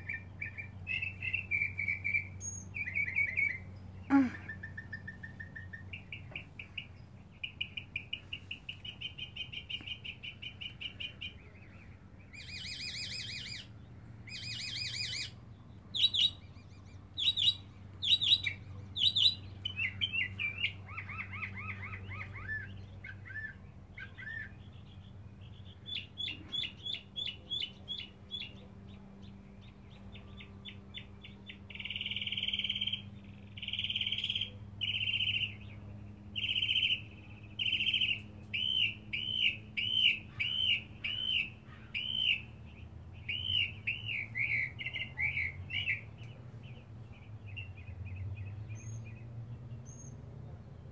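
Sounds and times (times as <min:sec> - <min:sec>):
mockingbird singing: 0:00.0 - 0:50.2.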